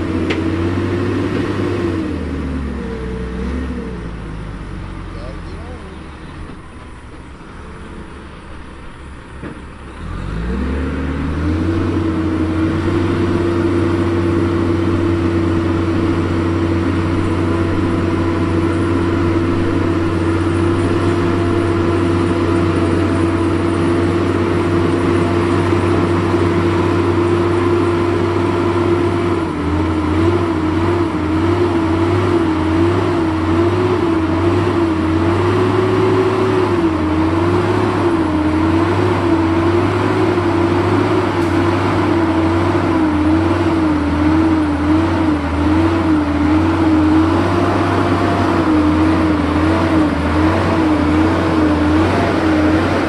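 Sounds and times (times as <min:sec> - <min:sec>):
diesel truck engine revving: 0:00.0 - 0:53.0.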